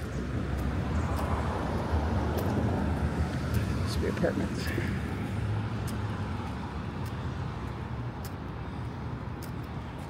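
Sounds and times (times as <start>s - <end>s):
traffic rumble: 0.0s - 10.0s
light ticks: 0.5s - 4.9s, 5.8s - 10.0s.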